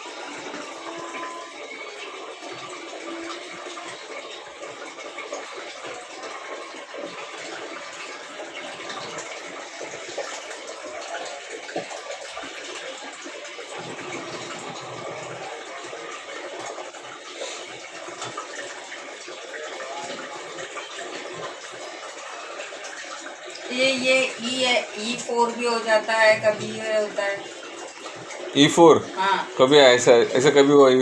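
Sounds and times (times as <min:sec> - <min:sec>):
washing machine water sloshing: 0:00.0 - 0:31.0.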